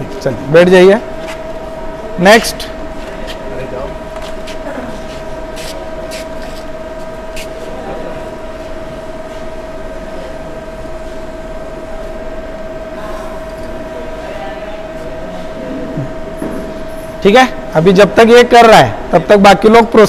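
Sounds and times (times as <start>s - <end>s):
machine hum with high-pitched whine: 0.0s - 20.0s.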